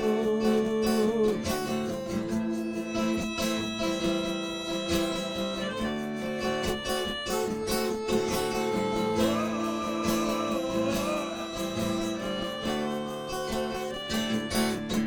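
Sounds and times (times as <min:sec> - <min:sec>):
strummed guitars: 0:00.0 - 0:15.0
wavering lead melody: 0:02.1 - 0:15.0.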